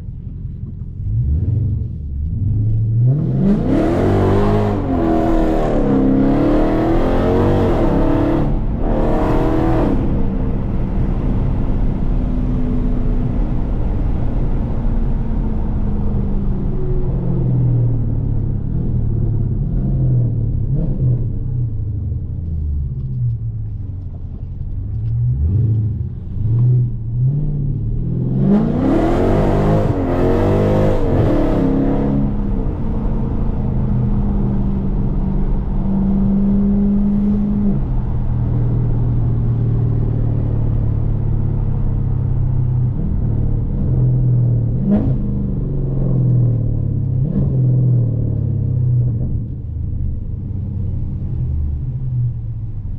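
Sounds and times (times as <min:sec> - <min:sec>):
car engine revving on the road: 0:00.0 - 0:52.9.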